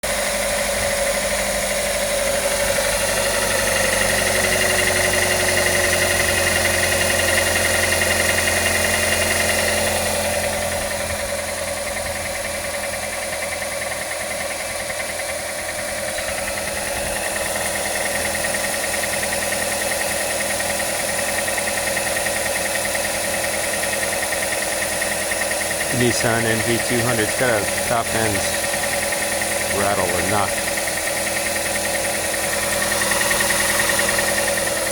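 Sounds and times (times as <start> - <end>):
van engine running: 0.0 - 34.9.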